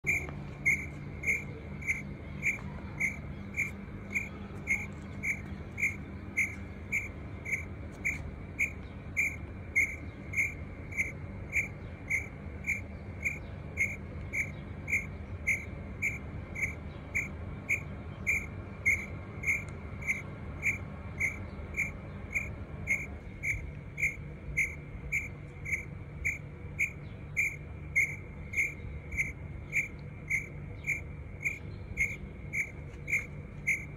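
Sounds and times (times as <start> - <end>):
cricket chirping: 0.0 - 33.9
low hum: 0.0 - 33.9.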